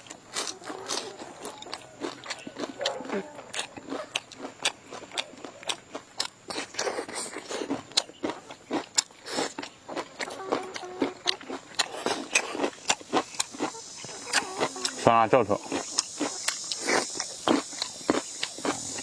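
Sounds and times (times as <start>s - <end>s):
people chewing crunchy food: 0.0s - 19.0s.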